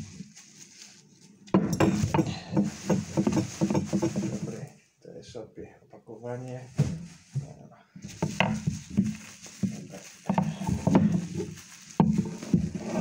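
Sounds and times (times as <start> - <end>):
bubble wrap crinkling and rustling: 0.0 - 4.8, 6.4 - 13.0.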